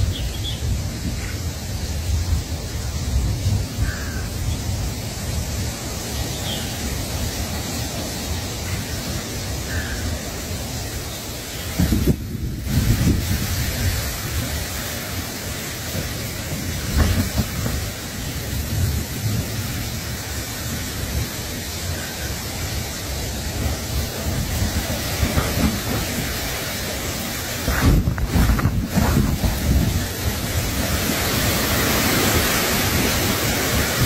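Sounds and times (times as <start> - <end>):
wind buffeting microphone: 0.0 - 9.6, 10.2 - 34.0.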